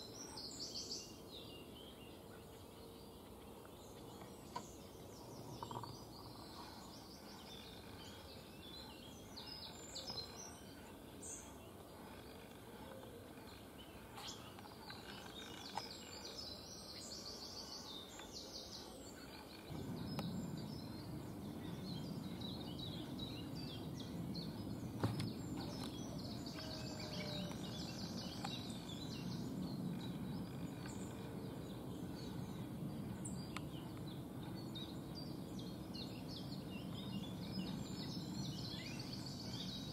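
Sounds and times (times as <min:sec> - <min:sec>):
songbirds chirping: 0:00.0 - 0:39.9
low background rumble: 0:01.8 - 0:39.9.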